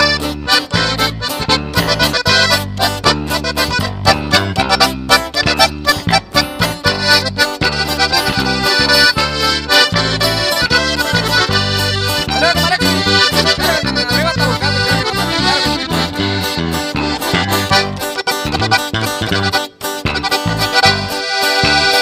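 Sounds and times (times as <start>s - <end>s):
accordion melody: 0.0s - 22.0s
low bass notes: 0.0s - 22.0s.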